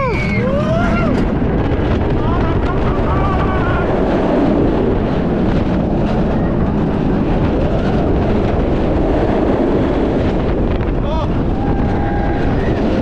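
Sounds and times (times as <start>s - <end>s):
roller coaster rumbling along track: 0.0s - 13.0s
wind buffeting microphone: 0.0s - 13.0s.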